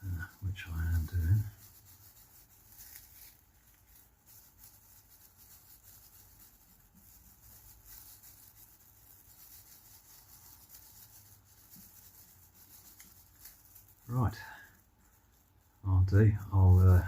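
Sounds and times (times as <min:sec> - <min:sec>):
soft rubbing: 0:00.0 - 0:17.0.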